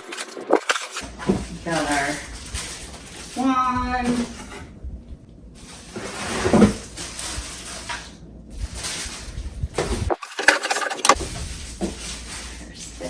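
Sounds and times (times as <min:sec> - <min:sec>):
packaging rustling: 0:00.0 - 0:03.6, 0:05.6 - 0:13.0.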